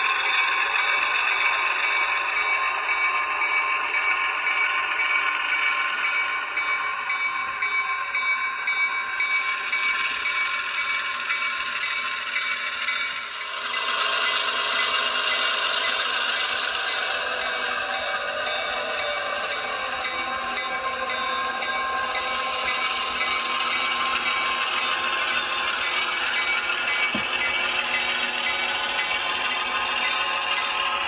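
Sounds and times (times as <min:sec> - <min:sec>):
model train diesel engine sound: 0:00.0 - 0:31.0.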